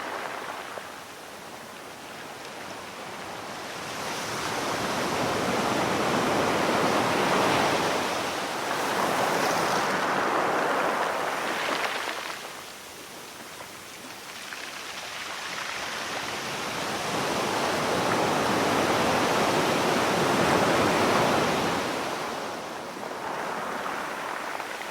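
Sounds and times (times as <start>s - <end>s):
sea waves washing ashore: 0.0s - 13.6s, 14.4s - 24.9s.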